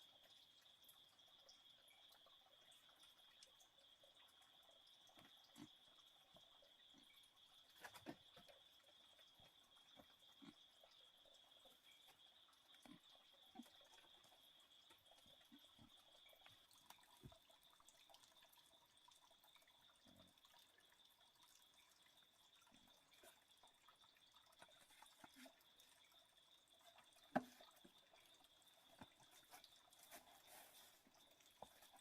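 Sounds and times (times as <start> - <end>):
soft ticks and drips: 0.0 - 32.0.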